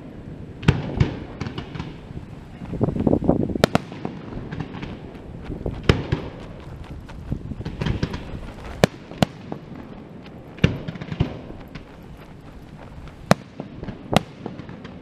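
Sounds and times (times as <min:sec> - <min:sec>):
fireworks bursting with sharp bangs: 0:00.0 - 0:15.0
rapid fireworks crackling: 0:00.0 - 0:15.0.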